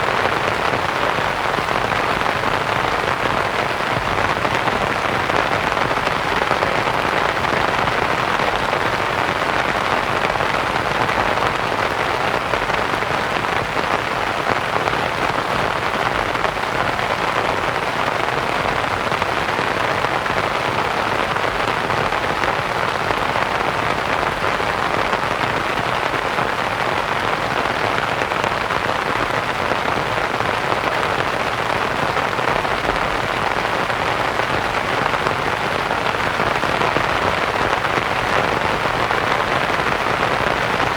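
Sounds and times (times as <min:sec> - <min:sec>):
rain pattering on a canvas tent: 0:00.0 - 0:40.9.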